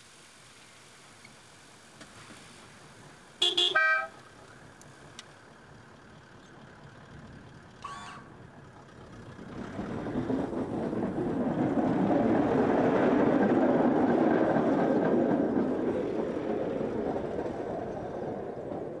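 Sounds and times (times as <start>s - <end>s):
rail vehicle rumbling past: 0.2s - 19.0s.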